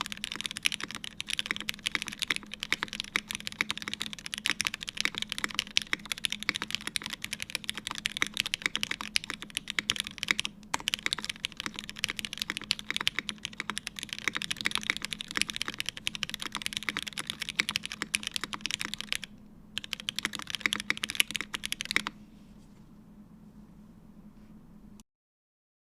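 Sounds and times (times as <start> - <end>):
fast typing on mechanical keyboard: 0.0 - 22.2.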